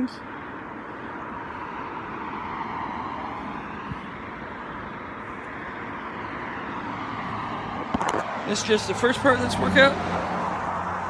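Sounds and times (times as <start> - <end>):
distant road traffic hum: 0.0 - 11.0.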